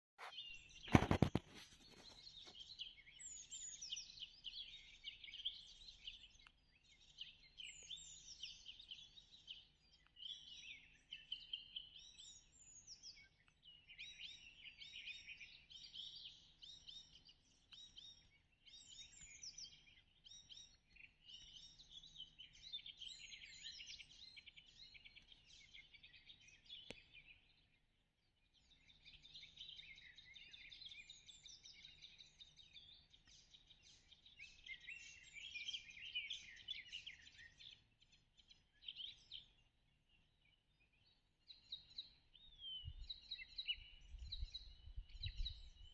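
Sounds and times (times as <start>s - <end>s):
songbirds chirping: 0.2s - 45.9s.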